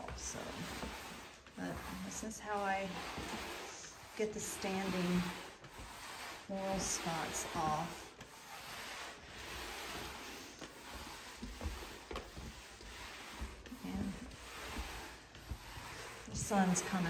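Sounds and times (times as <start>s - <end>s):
mop rubbing on wooden floor: 0.0s - 17.0s.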